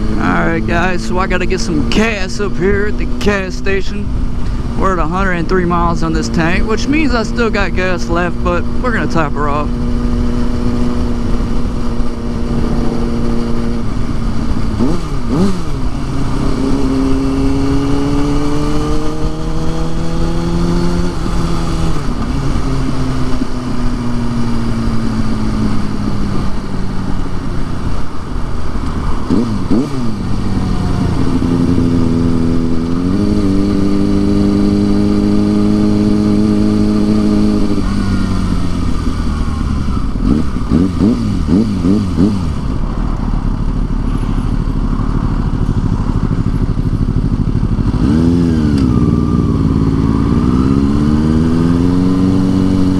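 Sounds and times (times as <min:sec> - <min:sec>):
wind noise: 0:00.0 - 0:43.4
motorcycle engine: 0:00.0 - 0:52.9.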